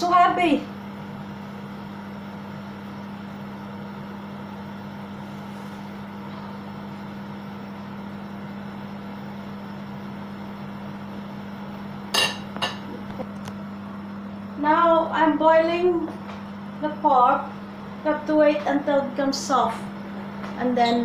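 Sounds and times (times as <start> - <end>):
kitchen appliance humming: 0.0 - 21.0.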